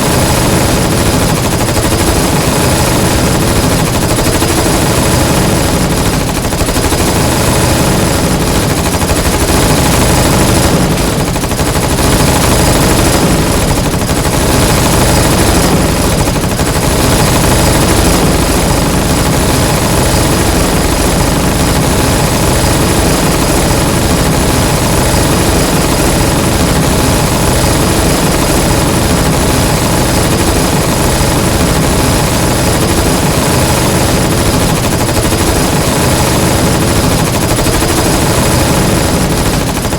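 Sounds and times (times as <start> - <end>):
submachine guns firing: 0.0 - 39.9.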